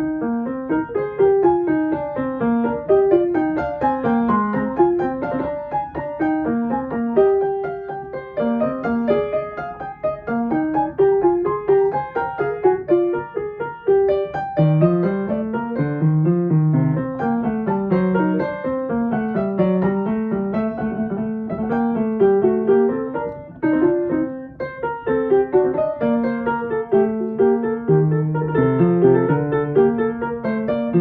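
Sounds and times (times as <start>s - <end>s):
piano playing melody: 0.0s - 31.0s.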